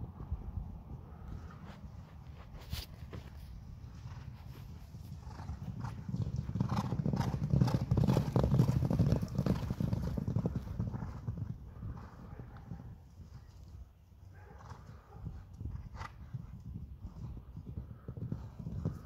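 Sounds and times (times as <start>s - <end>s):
horses galloping on grass: 0.0s - 19.0s.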